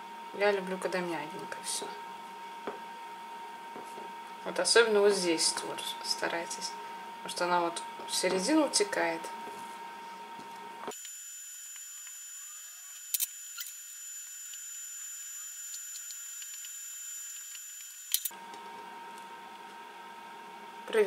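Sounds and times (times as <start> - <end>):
faint high whine: 1.6 - 21.0.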